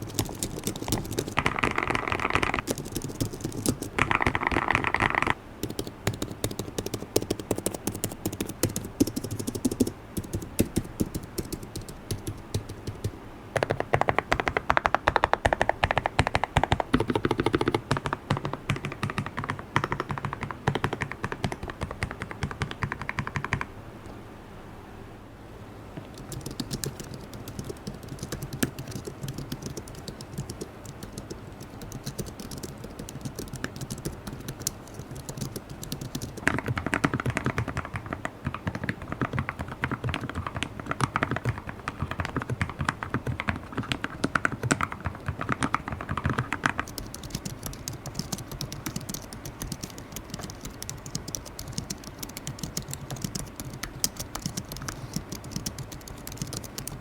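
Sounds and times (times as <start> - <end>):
rapid typing on keyboard: 0.0 - 23.7, 26.0 - 57.0.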